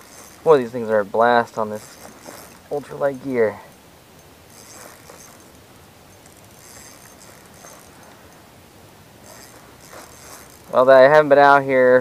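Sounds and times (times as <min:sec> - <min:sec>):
fishing reel gears whirring: 0:00.0 - 0:11.6
wind and water hiss: 0:00.0 - 0:12.0.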